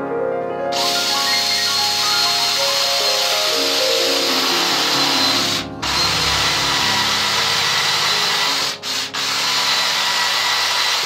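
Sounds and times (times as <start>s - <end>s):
cordless drill boring into wood: 0.8s - 11.0s.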